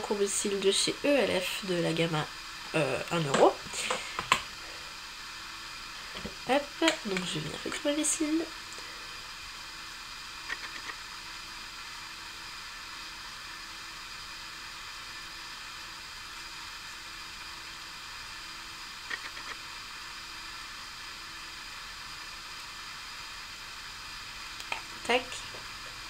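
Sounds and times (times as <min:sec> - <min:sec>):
background recording hiss: 0:00.0 - 0:26.0.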